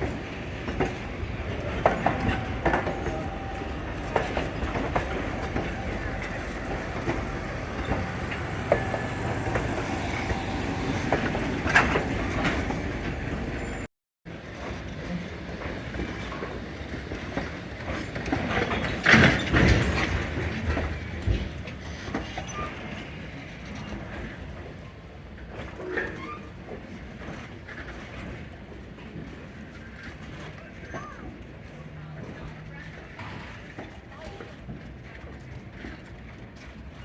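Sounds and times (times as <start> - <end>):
clicks and knocks from train cars: 0.0 - 37.0
train rumbling: 0.0 - 37.0.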